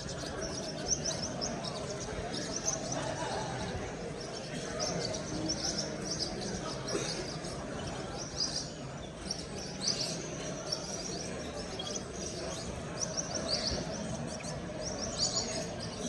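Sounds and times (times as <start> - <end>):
birds chirping: 0.0 - 16.0
low background murmur: 0.0 - 16.0.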